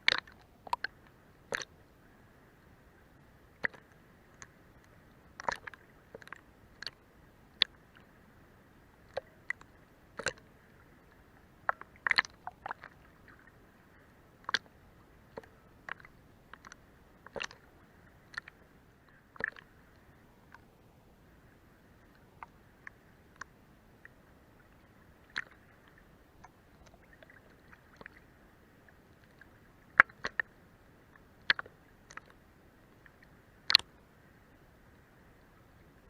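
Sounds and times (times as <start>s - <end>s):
water lapping against boat hull: 0.0s - 2.2s, 3.5s - 8.2s, 9.0s - 34.0s
faint steady hiss: 0.0s - 36.0s.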